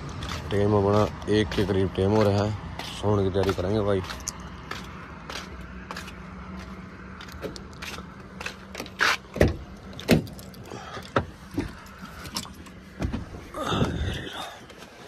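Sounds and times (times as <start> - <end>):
shoes on metal cab steps: 0.0 - 15.0.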